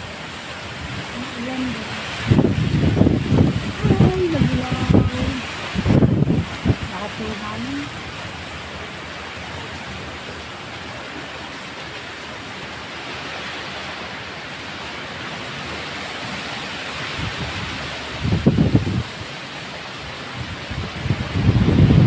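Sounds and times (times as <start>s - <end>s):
heavy rain hiss: 0.0s - 22.0s
strong wind through foliage: 0.0s - 22.0s
wind gusts buffeting microphone: 0.0s - 22.0s.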